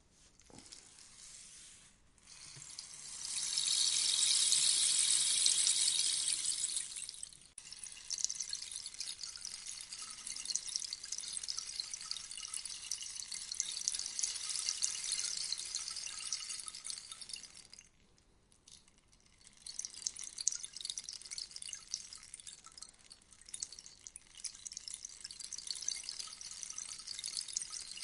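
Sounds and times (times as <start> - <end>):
rainstick pellets trickling: 0.4 - 1.5, 2.2 - 18.0, 18.7 - 28.0.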